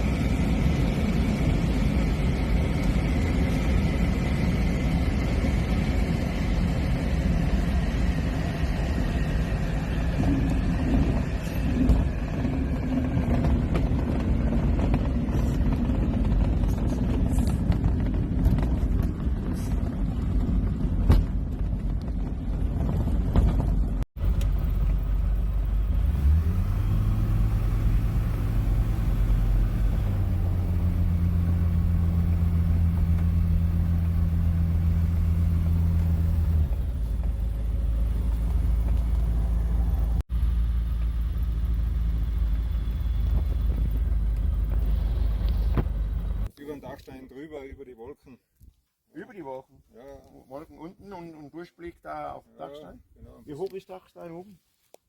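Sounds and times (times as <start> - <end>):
airplane engine drone in cockpit: 0.0 - 46.5.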